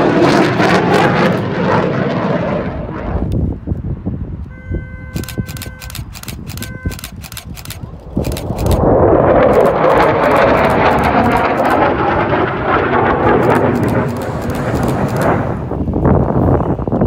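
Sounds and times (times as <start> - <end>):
jet passing overhead: 0.0 - 3.7, 5.2 - 16.9.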